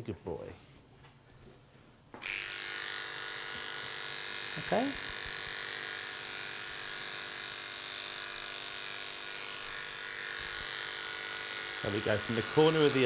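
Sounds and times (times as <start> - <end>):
electric clippers buzzing: 2.2 - 13.0.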